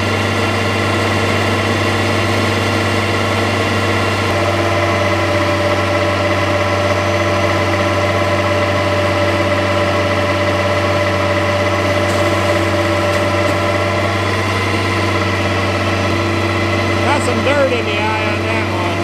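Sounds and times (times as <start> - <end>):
tractor-powered pump running: 0.0 - 19.0.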